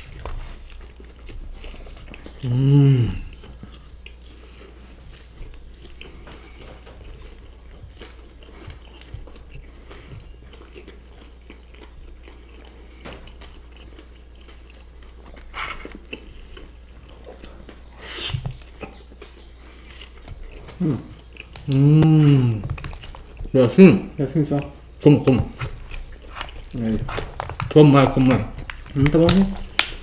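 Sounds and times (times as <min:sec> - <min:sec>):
chewing and biting food: 0:00.0 - 0:30.0
faint low hum: 0:00.0 - 0:30.0.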